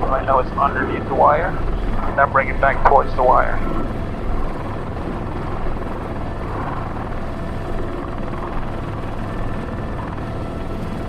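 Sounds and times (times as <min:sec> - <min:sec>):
faint steady whine: 0:00.0 - 0:11.0
helicopter turbine and rotor: 0:00.0 - 0:11.0.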